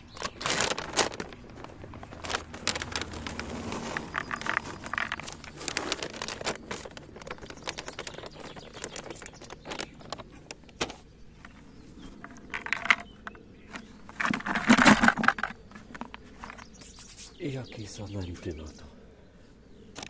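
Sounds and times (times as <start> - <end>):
bait rattling in bucket: 0.0 - 11.6, 12.2 - 16.7.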